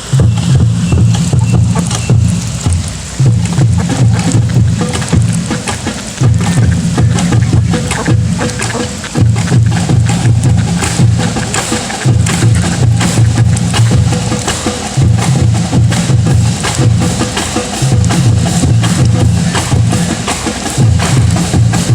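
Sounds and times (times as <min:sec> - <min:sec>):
ducks dabbling in water: 0:00.0 - 0:21.9
school band music with drums: 0:00.0 - 0:21.9.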